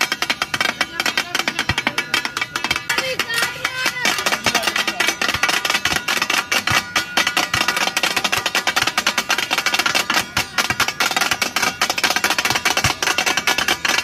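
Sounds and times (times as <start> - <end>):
steel spatulas clanging on griddle: 0.0 - 14.0.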